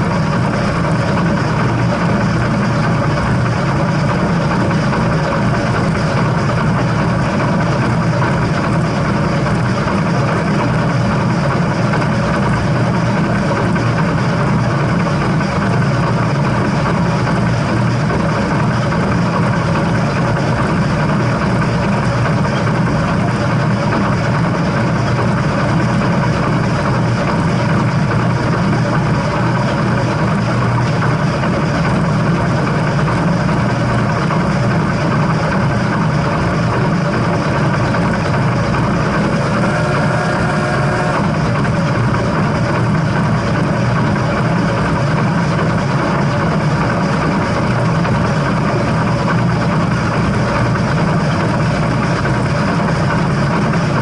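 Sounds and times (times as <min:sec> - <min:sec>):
steam train rumbling: 0:00.0 - 0:54.0.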